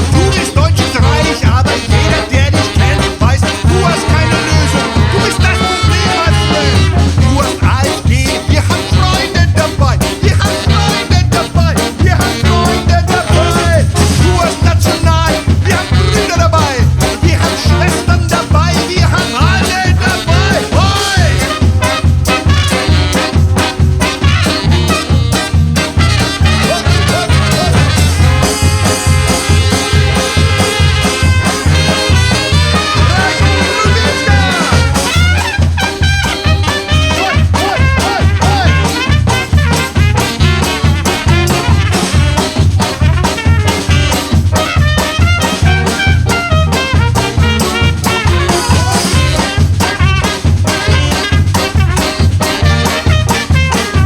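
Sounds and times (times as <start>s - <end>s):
low pulsing bass line: 0.0s - 53.7s
brass band playing: 0.0s - 54.0s.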